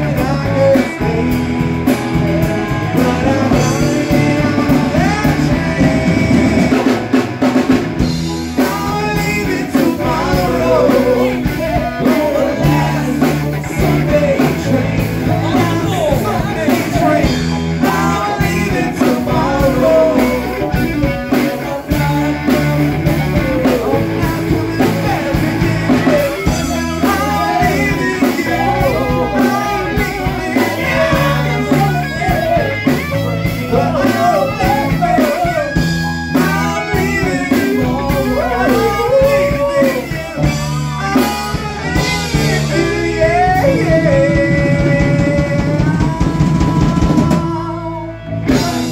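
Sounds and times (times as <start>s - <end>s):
blues-rock band playing: 0.0s - 48.9s
loud lead vocals: 0.0s - 48.9s.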